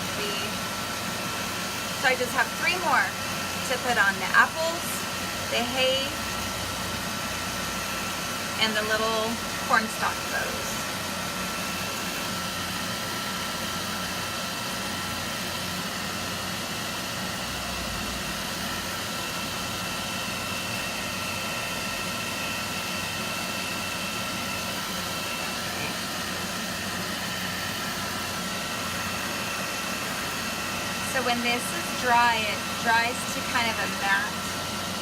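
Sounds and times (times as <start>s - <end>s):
hot-air dryer blowing with whine: 0.0s - 35.0s.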